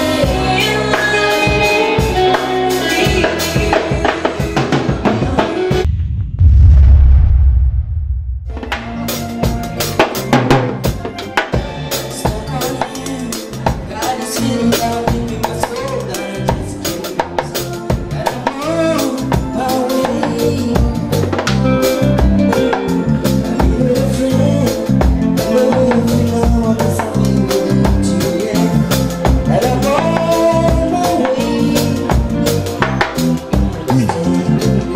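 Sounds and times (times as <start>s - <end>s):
instrumental band playing: 0.0s - 5.8s, 8.6s - 34.9s.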